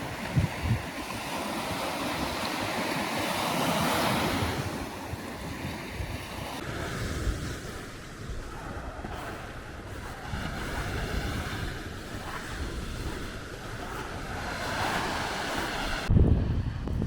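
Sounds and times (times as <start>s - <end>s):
surf washing onto shore: 0.0s - 17.0s
wind buffeting microphone: 0.0s - 17.0s.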